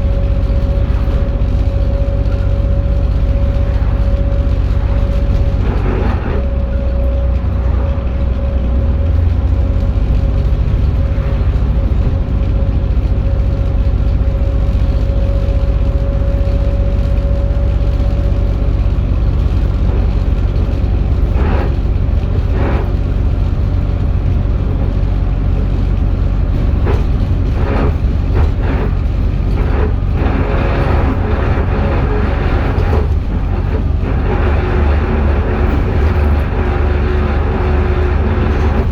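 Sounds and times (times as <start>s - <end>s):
bus engine rumble: 0.0s - 38.9s
steady whine: 0.0s - 38.9s.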